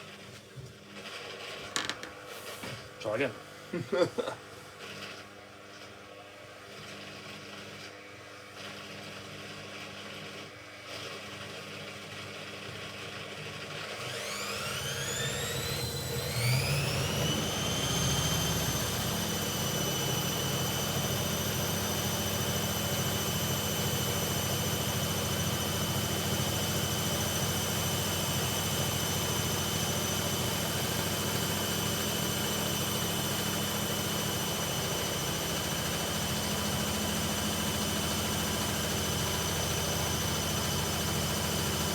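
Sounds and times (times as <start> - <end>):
washing machine spin whine: 8.2 - 41.9.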